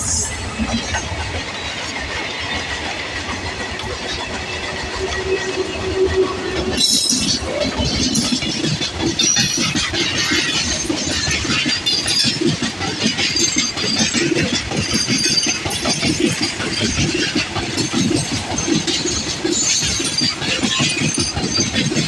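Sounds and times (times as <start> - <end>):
train wheels rumbling and clattering: 0.0 - 22.0.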